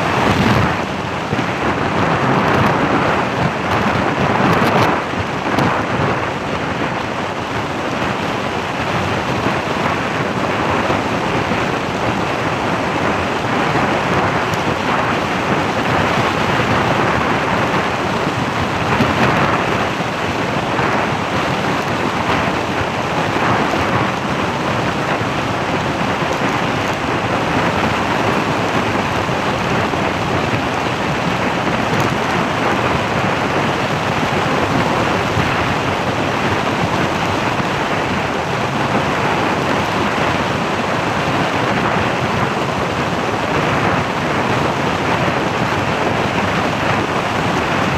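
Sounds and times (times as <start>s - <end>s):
wind buffeting the microphone: 0.0s - 47.9s.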